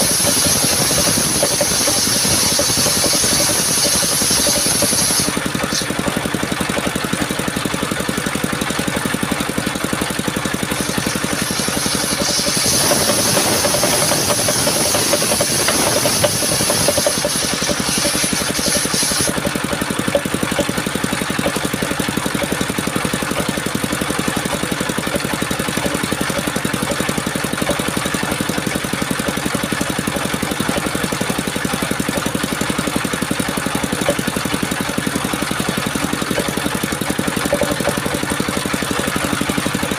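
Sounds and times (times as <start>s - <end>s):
saw blade cutting wood: 0.0s - 8.2s, 10.4s - 39.9s
sawmill engine running: 0.0s - 39.9s.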